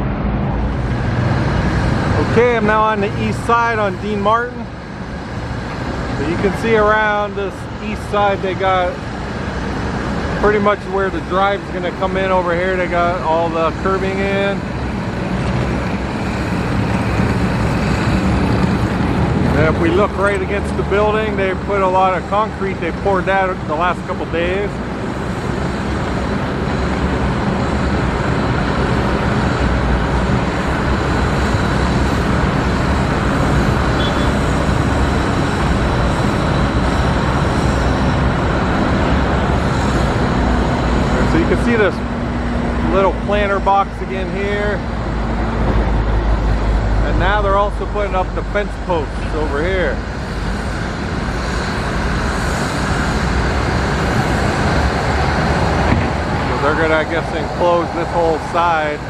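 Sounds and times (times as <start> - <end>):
road traffic rumble: 0.0 - 59.0
rushing roar of vehicles: 0.0 - 59.0.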